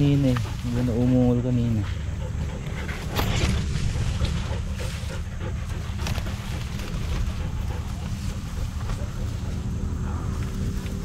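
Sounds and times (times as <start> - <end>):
reeds rustling and crackling: 0.0 - 11.0
wind rumble on microphone: 0.0 - 11.0.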